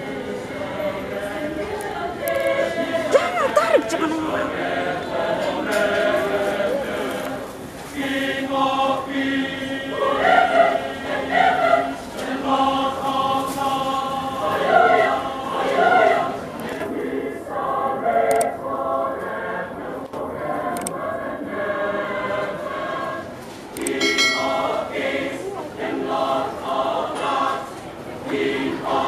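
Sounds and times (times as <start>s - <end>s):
mixed choir singing: 0.0s - 29.0s.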